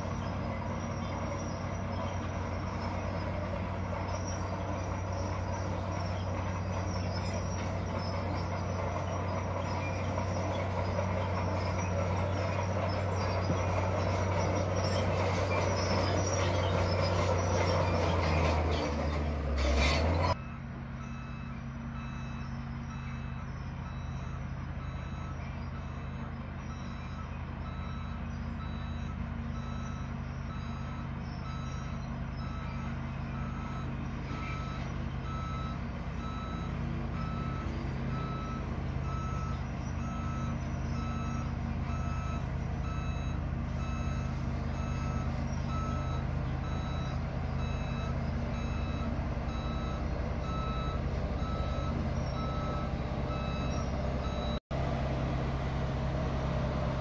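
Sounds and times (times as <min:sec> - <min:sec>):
reversing alarm beeping: 0:00.0 - 0:54.6
road roller diesel engine: 0:00.0 - 0:57.0.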